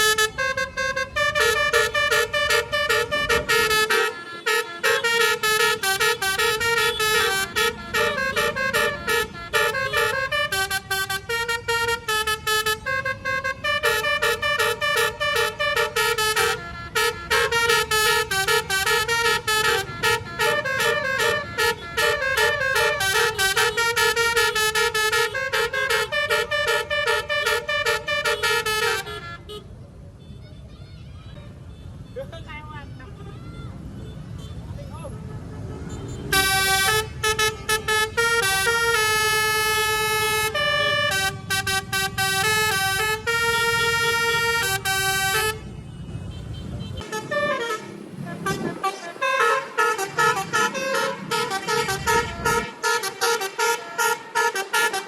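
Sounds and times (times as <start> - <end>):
bus horn playing a melody: 0.0 - 29.7, 34.4 - 55.0.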